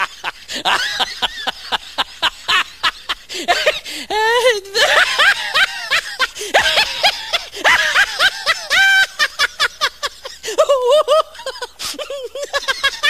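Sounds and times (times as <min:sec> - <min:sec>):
person laughing hard: 0:00.0 - 0:13.0.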